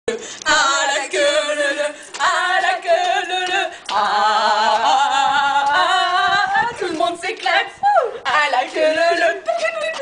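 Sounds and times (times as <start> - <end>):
women singing together unaccompanied: 0.1 - 10.0.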